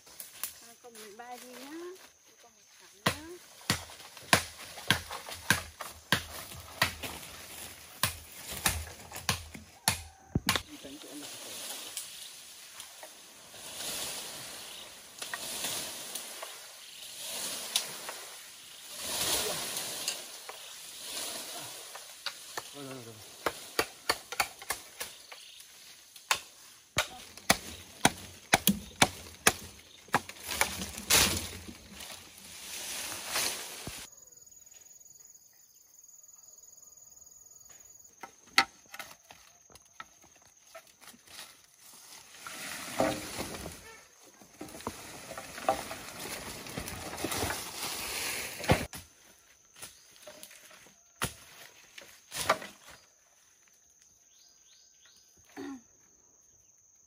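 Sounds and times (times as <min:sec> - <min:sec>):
leaves and branches rustling: 0:00.0 - 0:34.1, 0:38.8 - 0:55.0.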